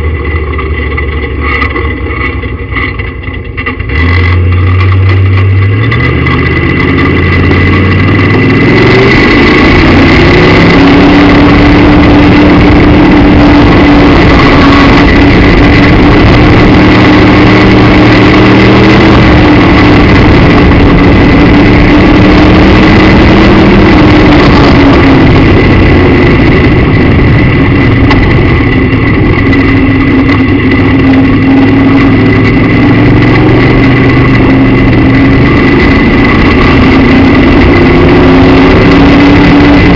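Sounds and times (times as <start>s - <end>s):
race car engine at speed: 0.0s - 39.9s
steady high whine: 0.0s - 39.9s.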